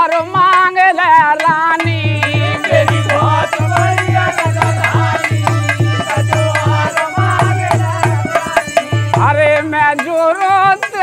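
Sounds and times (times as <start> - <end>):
hand drum folk rhythm: 0.0 - 11.0
men singing: 0.0 - 11.0.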